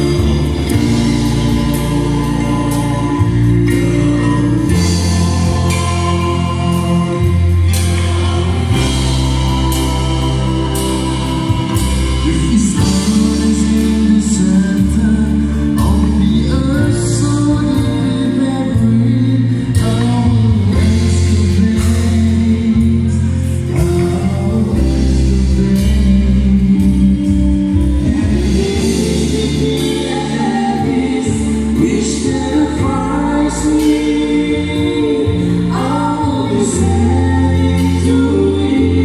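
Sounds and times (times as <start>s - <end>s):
low bass notes: 0.0s - 39.0s
vocal group singing: 0.0s - 39.0s.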